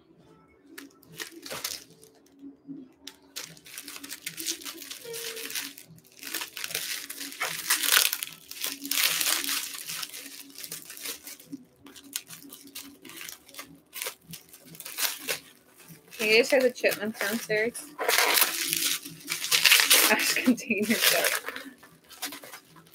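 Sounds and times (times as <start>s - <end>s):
scissors cutting plastic: 0.7s - 2.2s, 3.0s - 22.9s
plastic wrapping crinkling: 0.7s - 22.9s.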